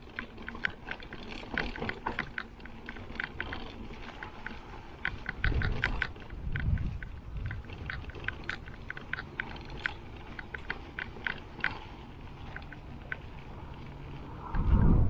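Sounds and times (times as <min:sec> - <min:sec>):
tyres rumbling on dirt: 0:00.0 - 0:14.4
bike clicking and rattling: 0:00.0 - 0:14.7
wind: 0:00.0 - 0:15.0.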